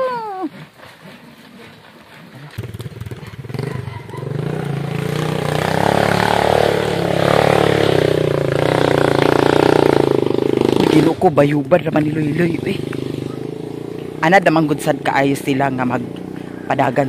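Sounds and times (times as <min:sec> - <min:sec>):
small motorcycle engine: 0:02.6 - 0:17.0.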